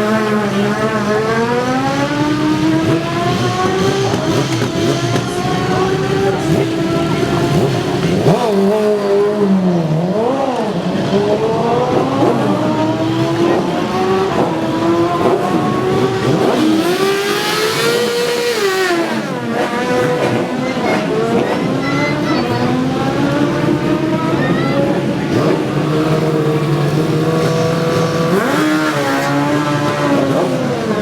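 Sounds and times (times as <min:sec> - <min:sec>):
racing motorcycle engines revving: 0:00.0 - 0:31.0.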